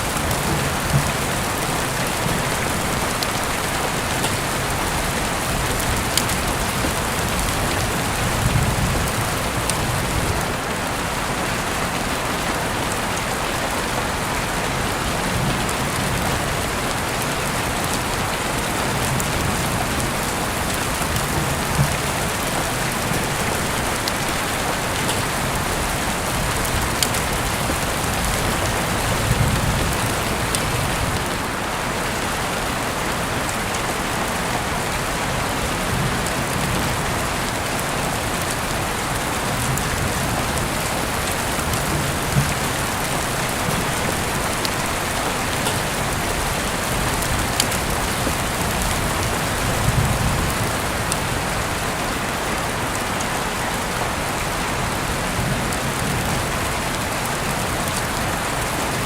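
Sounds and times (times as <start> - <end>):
sharp rain ticks: 0.0 - 59.0
steady rain: 0.0 - 59.0.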